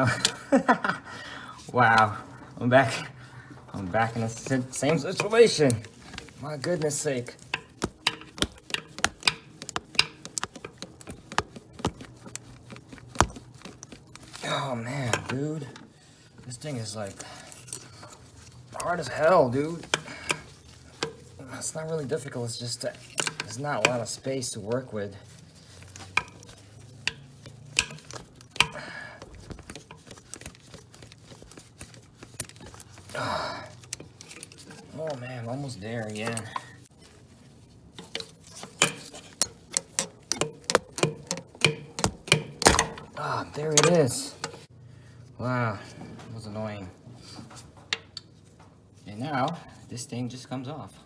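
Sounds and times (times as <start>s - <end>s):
hand tools clicking and tapping: 0.0s - 1.0s, 2.9s - 36.9s, 37.9s - 44.7s, 47.4s - 48.7s.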